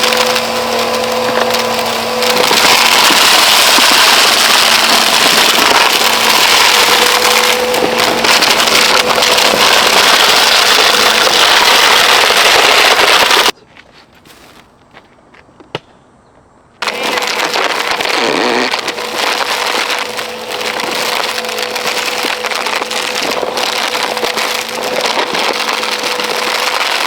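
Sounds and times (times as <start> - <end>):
debris rattling in vacuum: 0.0 - 13.6, 16.8 - 27.0
vacuum cleaner motor hum: 0.0 - 13.6, 16.8 - 27.0.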